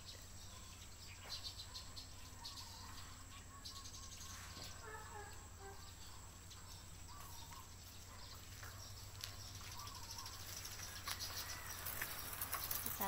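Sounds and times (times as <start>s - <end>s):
birds whistling: 0.0s - 13.0s.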